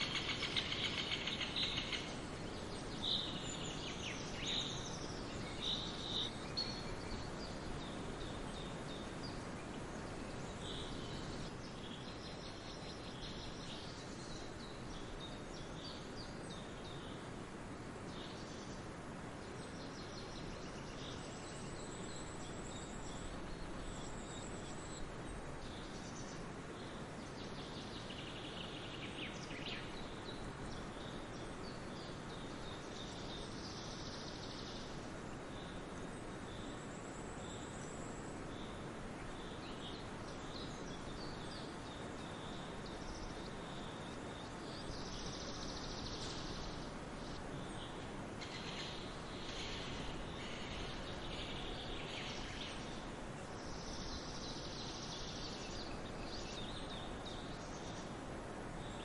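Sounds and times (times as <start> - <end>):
outdoor background hiss: 0.0 - 59.0
songbirds chirping: 0.0 - 59.0.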